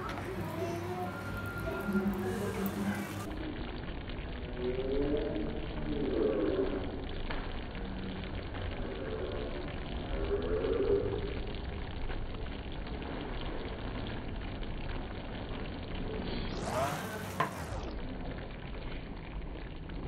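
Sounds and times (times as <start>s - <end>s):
milk boiling in a pan: 0.0s - 20.0s.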